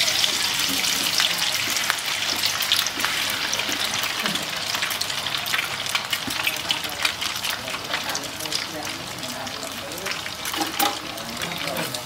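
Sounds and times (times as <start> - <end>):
deep-frying sizzle with crackling pops: 0.0 - 12.0.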